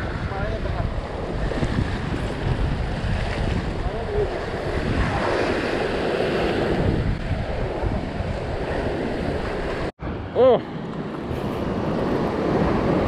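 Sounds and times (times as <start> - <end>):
ocean waves washing over rock: 0.0 - 13.0
wind buffeting microphone: 0.0 - 13.0.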